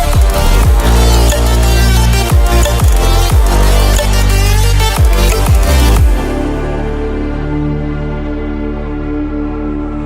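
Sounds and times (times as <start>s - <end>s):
low steady drone: 0.0s - 10.0s
soft synth chords: 0.0s - 10.0s.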